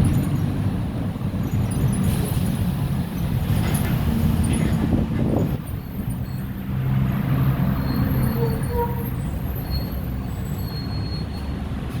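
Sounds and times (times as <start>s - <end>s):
bus diesel engine running: 0.0s - 12.0s
road noise: 0.0s - 12.0s.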